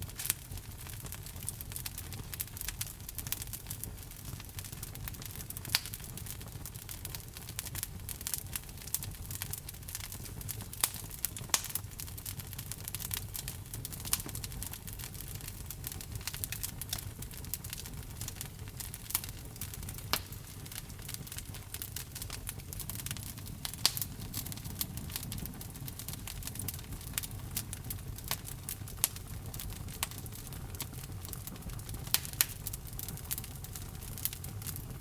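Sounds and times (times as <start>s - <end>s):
fireplace fire crackling: 0.0s - 35.0s.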